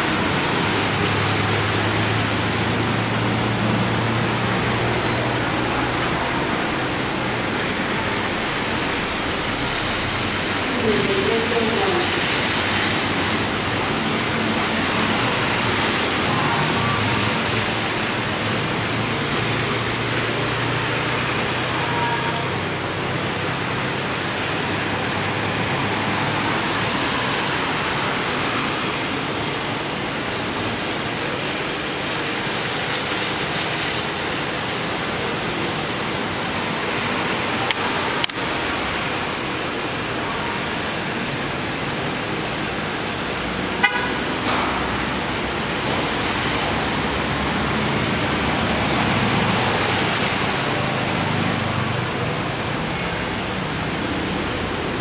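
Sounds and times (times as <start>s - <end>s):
heavy rain falling: 0.0s - 55.0s
vehicles driving on wet road: 0.0s - 55.0s.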